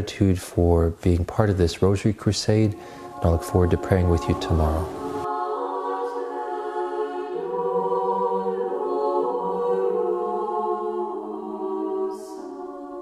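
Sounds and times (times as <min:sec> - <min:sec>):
choir singing long notes: 0:01.9 - 0:13.0.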